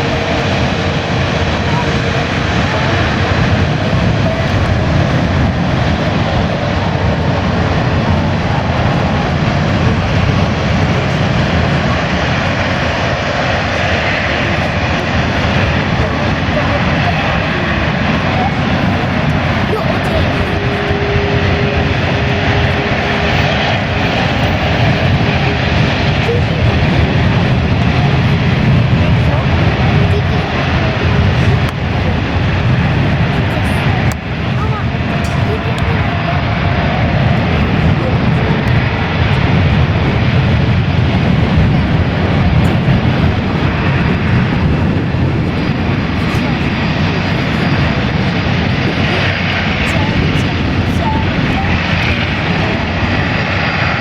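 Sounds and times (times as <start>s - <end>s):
jet engines roaring: 0.0s - 54.0s
wind buffeting microphone: 0.0s - 54.0s.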